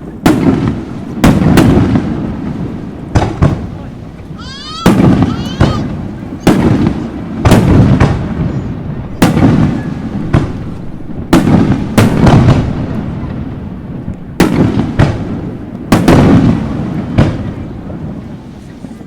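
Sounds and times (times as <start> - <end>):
firework shells bursting: 0.0 - 18.5.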